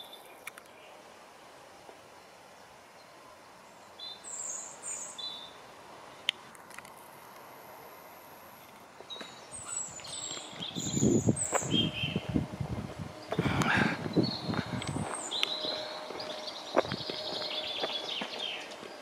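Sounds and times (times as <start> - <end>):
small birds chirping: 0.0 - 1.1, 2.1 - 6.5, 8.6 - 19.0.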